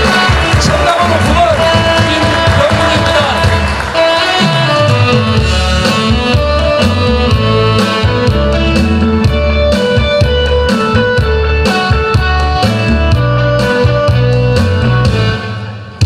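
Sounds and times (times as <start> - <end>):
bass and guitar: 0.0 - 16.0
drum kit beat: 0.0 - 16.0.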